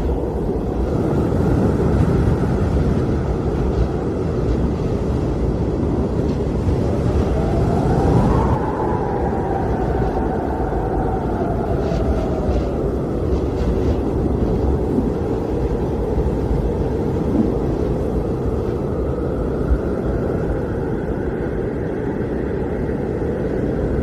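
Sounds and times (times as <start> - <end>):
blizzard wind blowing: 0.0 - 24.0.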